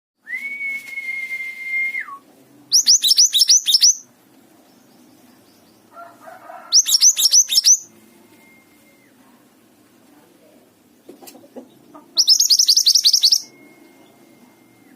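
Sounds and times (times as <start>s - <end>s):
songbird singing: 0.3s - 14.9s.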